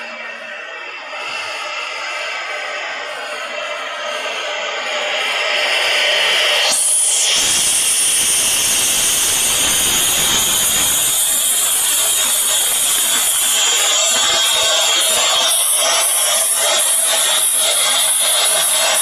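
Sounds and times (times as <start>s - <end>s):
router spindle whining: 0.0s - 19.0s.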